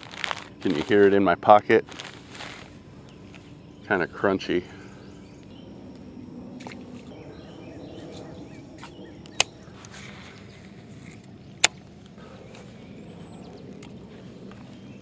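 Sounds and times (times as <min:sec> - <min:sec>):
steady low background: 0:00.0 - 0:15.0.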